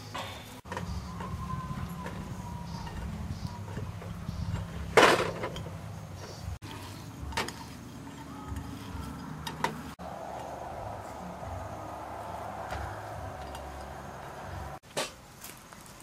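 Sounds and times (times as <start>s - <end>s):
low hum: 0.7s - 14.8s.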